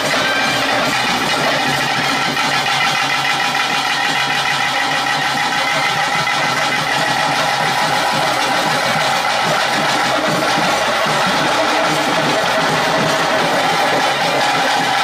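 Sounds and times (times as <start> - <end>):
traditional ritual music: 0.0 - 15.0.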